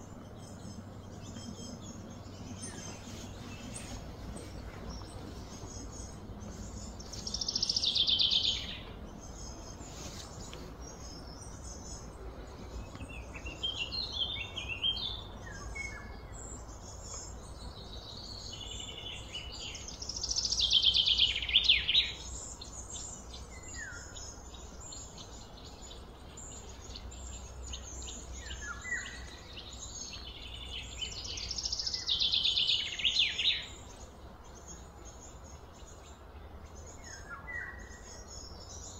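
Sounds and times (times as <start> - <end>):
low background rumble: 0.0 - 33.0.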